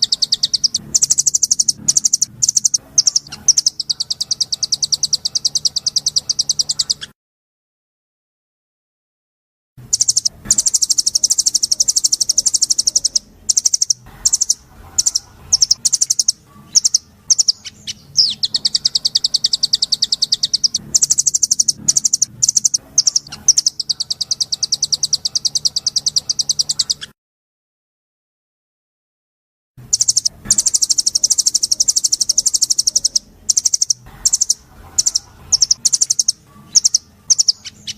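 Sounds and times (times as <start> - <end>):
songbird buzzy trills: 0.0 - 7.1, 9.8 - 27.1, 29.8 - 37.9.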